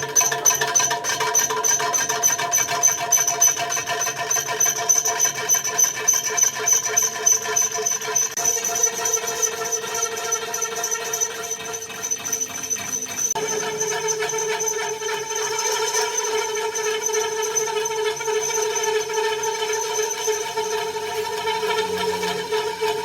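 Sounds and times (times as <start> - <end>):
high-pitched mechanical whine: 0.0 - 23.0.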